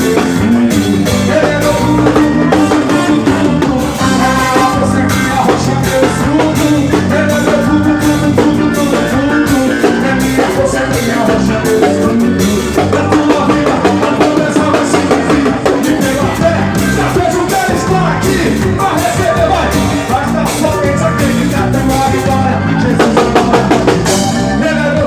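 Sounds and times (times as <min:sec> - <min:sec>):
band playing worship song: 0:00.0 - 0:25.0
drum kit beat: 0:00.0 - 0:25.0
person singing: 0:00.0 - 0:25.0.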